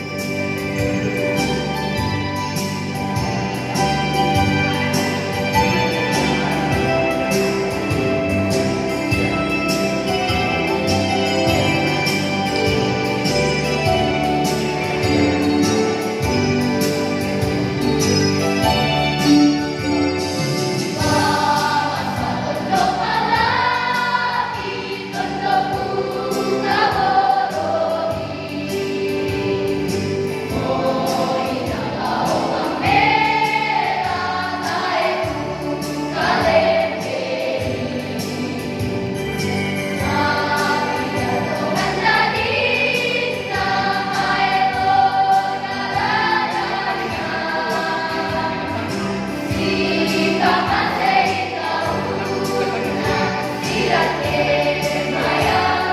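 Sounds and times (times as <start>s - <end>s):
children's choir singing: 0.0s - 55.9s.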